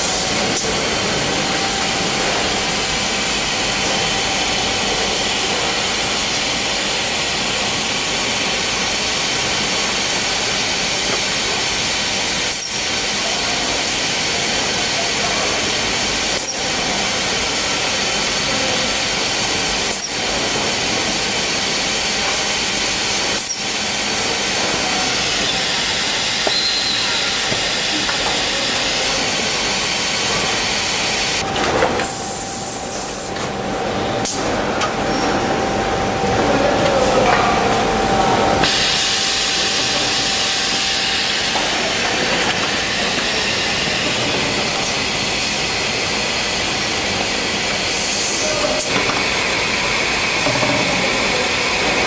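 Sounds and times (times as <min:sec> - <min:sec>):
production-line machinery hissing: 0:00.0 - 0:52.0.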